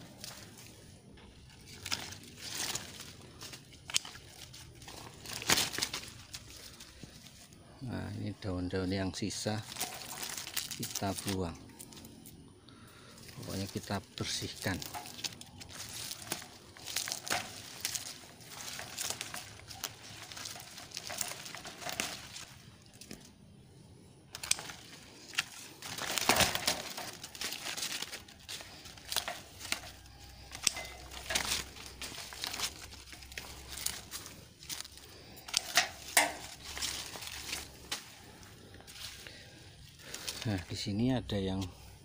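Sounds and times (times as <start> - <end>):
leaves rustling and tearing: 0.0 - 42.0.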